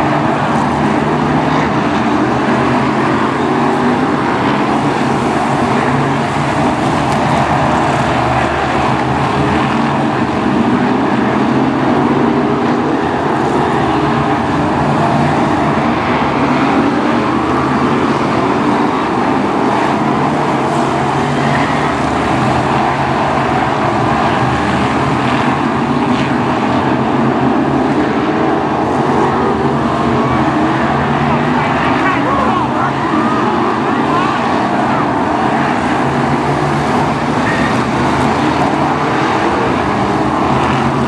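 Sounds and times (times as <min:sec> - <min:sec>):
stock car engines running: 0:00.0 - 0:41.0.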